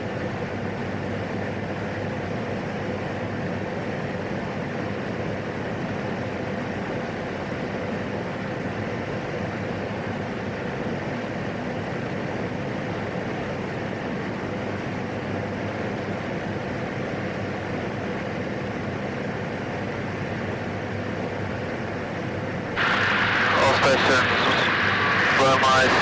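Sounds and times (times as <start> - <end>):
turboprop engine and propeller drone: 0.0 - 26.0.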